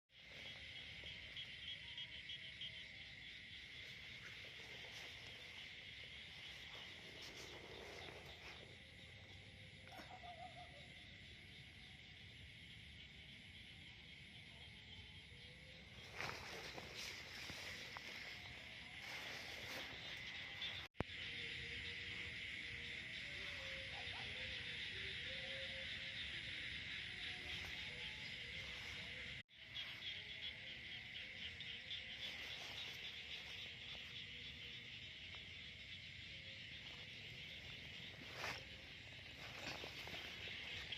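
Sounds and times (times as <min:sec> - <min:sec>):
insects trilling: 0:00.1 - 0:40.9.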